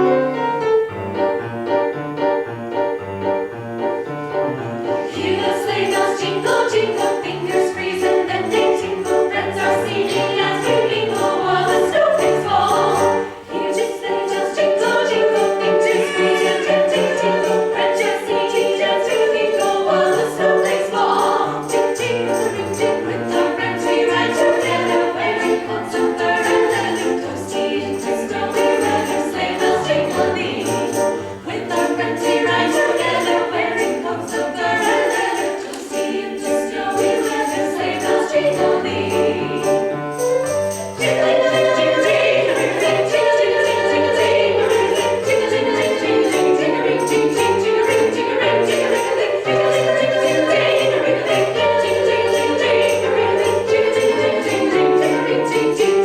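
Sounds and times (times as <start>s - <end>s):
choir singing a folk tune: 0.0s - 56.0s
sleigh bells jingling: 5.0s - 56.0s.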